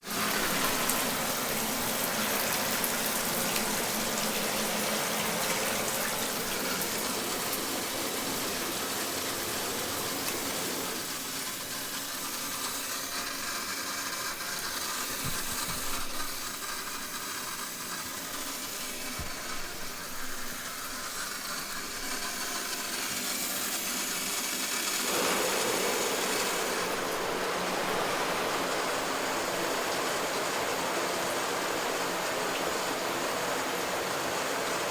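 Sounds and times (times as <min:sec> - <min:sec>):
shower spray hissing: 0:00.0 - 0:34.9.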